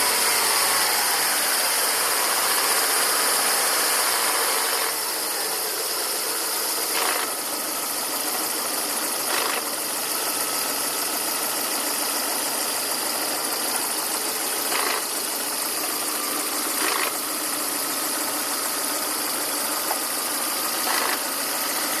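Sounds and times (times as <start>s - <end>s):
car engine idling with rasp: 0.0s - 22.0s.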